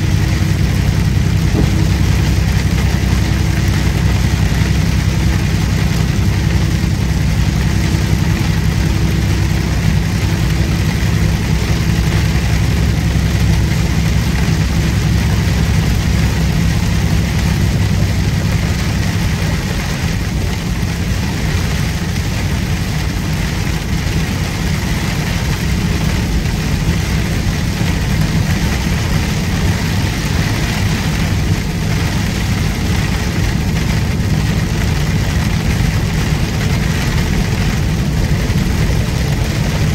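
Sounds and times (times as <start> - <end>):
diesel engine droning: 0.0 - 39.9
road noise hiss: 0.0 - 39.9.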